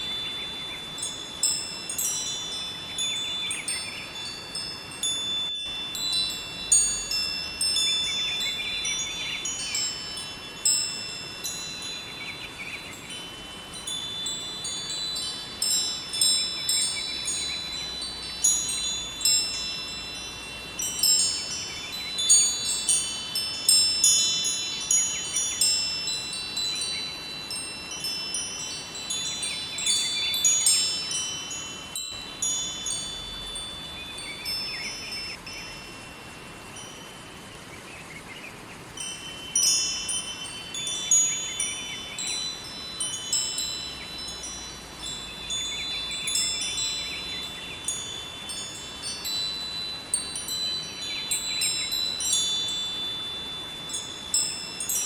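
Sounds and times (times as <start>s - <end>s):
flowing river: 0.0s - 55.0s
wind chimes ringing: 0.0s - 55.0s.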